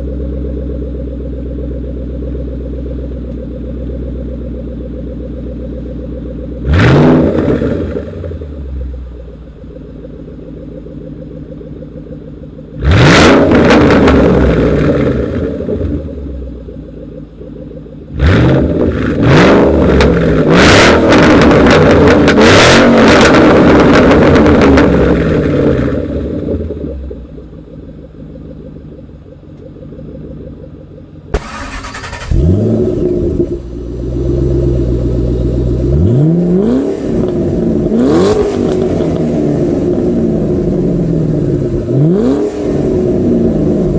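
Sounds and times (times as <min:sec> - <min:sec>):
car exhaust idling and revving: 0:00.0 - 0:43.9.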